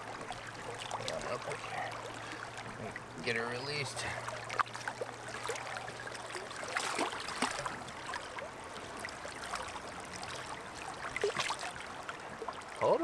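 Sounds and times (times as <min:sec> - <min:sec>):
river current flowing: 0:00.0 - 0:13.0
small water splashes and trickles: 0:00.0 - 0:13.0.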